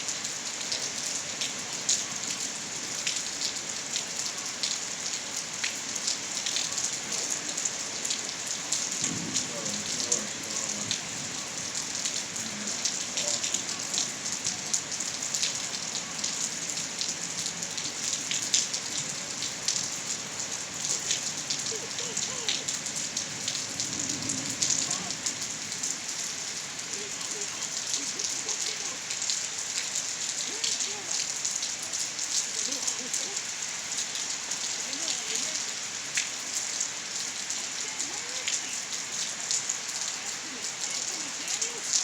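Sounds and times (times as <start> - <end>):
raindrops tapping on hard surfaces: 0.0 - 42.0
steady rain hiss: 0.0 - 42.0.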